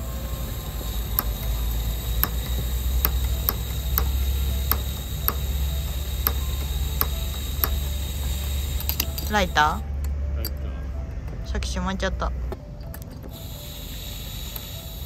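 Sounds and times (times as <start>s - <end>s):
stove igniter clicking: 0.0s - 10.6s, 12.5s - 15.0s.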